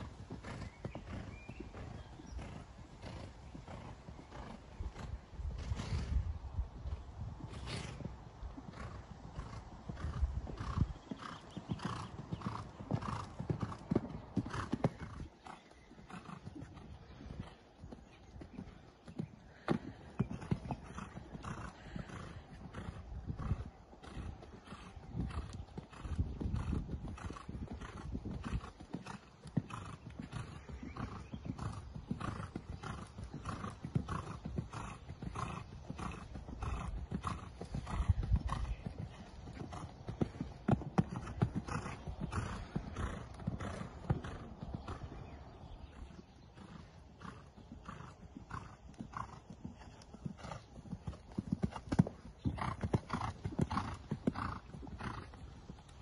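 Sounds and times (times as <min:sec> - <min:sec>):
horse hoofbeats cantering: 0:00.0 - 0:06.2, 0:06.8 - 0:56.0.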